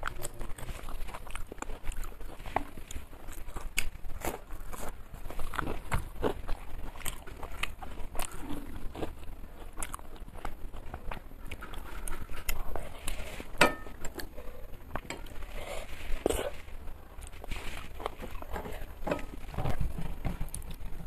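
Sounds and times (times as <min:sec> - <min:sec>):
close chewing with crunches: 0:00.0 - 0:21.0.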